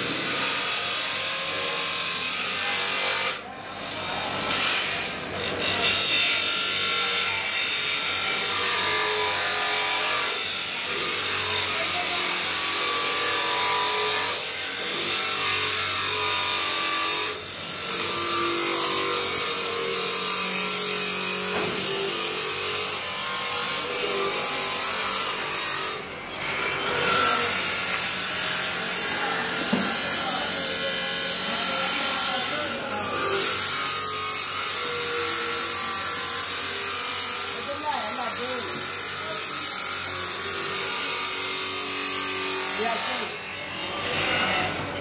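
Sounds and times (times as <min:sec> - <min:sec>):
blade grinding on abrasive wheel: 0:00.0 - 0:44.9.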